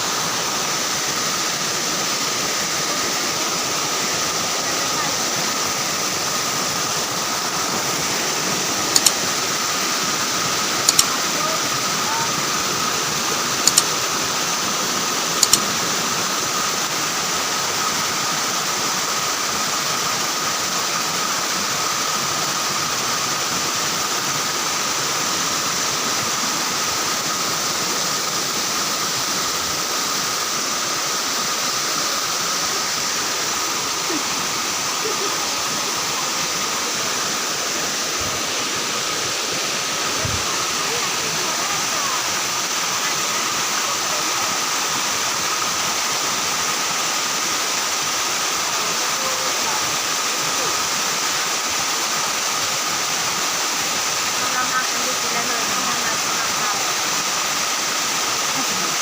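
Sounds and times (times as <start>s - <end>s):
waterfall pouring: 0.0s - 59.0s.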